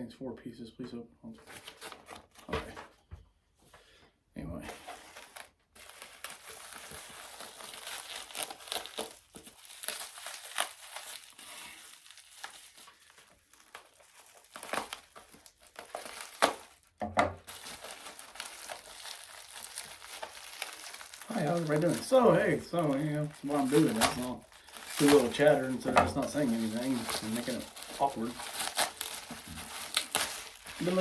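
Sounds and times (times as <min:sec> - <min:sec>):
packaging crinkling and rustling: 0:01.4 - 0:02.9, 0:04.6 - 0:31.0
packaging tearing: 0:04.7 - 0:31.0.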